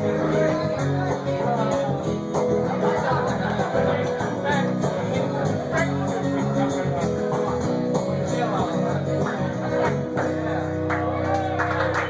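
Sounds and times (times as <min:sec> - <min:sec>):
country music with guitar: 0:00.0 - 0:12.0.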